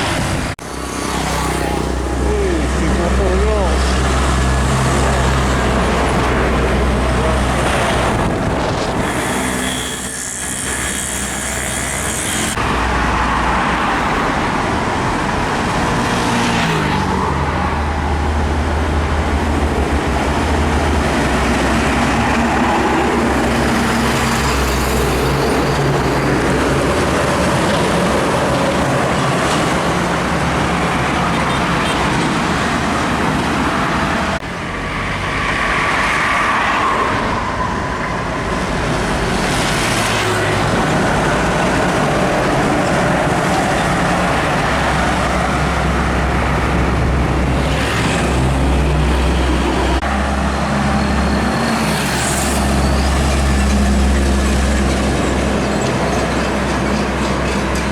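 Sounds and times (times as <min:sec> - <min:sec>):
trucks passing with diesel engines: 0:00.0 - 0:57.9.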